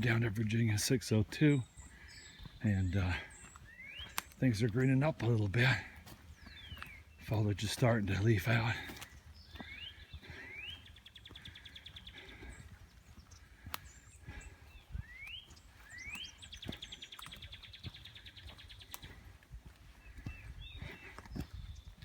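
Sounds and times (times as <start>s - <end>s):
footsteps on a trail: 0.0s - 22.0s
songbird singing: 0.0s - 22.0s.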